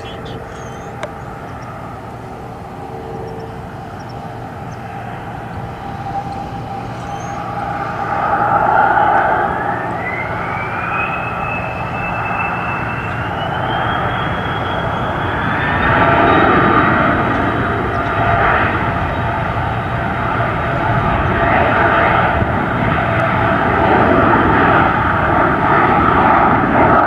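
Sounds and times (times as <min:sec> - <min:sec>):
airplane engine whine: 0:00.0 - 0:27.0
engine rumble: 0:00.0 - 0:27.0.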